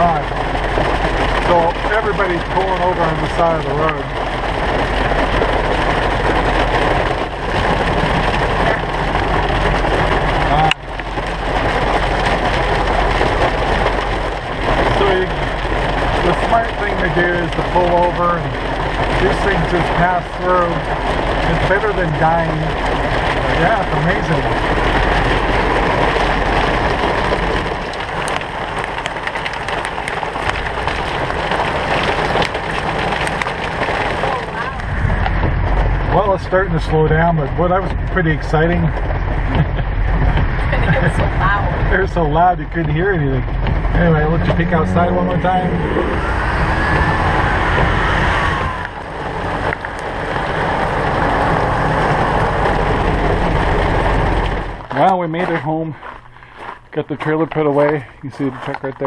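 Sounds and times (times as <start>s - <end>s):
rain and hail on a truck roof: 0.0s - 59.0s.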